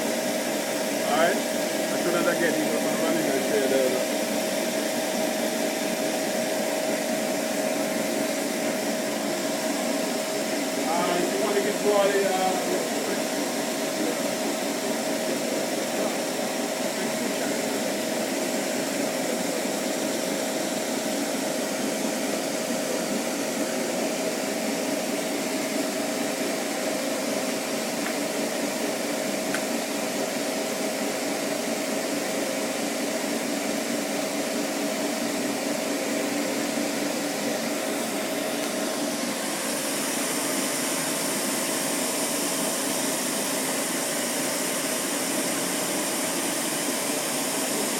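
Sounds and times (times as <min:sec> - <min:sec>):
recovery machine humming: 0:00.0 - 0:47.9.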